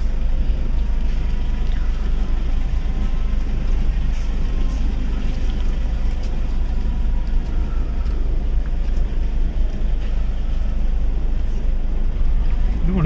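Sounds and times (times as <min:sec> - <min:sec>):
vehicle rumbling: 0:00.0 - 0:13.0.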